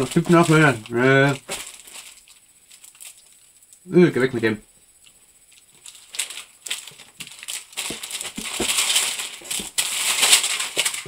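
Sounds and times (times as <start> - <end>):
plastic wrappers crinkling: 0.0 - 4.3, 5.4 - 11.0.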